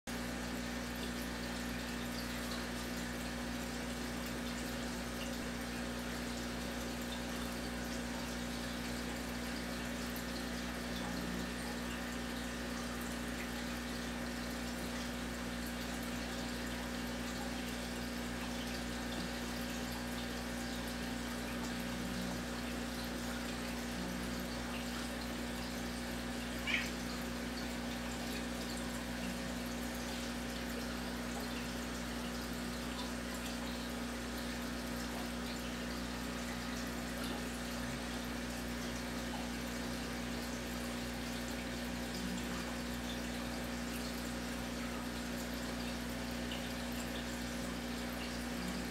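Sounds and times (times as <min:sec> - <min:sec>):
low electric hum: 0:00.1 - 0:48.9
water trickling and bubbling: 0:00.1 - 0:48.9.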